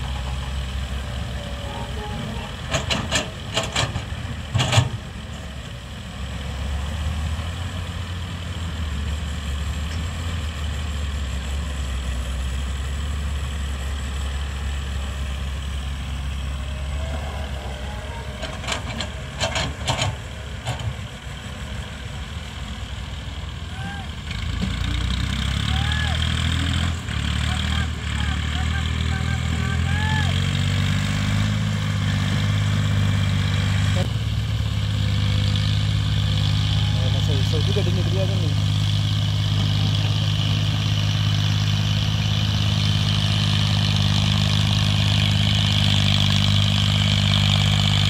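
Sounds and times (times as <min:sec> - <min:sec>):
diesel engines idling: 0:00.0 - 0:48.0.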